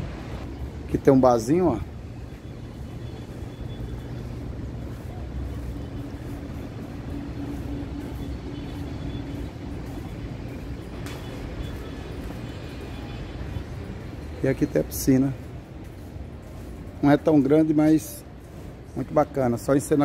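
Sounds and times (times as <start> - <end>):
distant city traffic rumble: 0.0 - 20.0.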